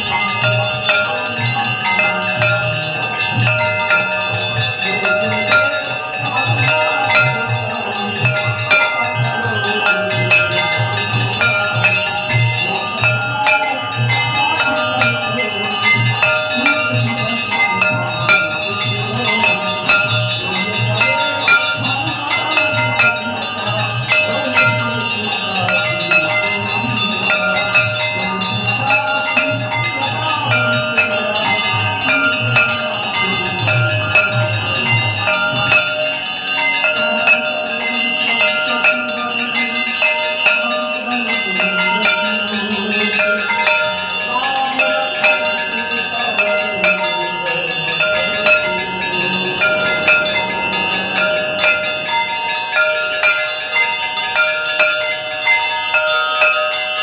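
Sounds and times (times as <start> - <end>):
devotional music with singing: 0.0 - 57.0
temple bells ringing: 0.0 - 57.0.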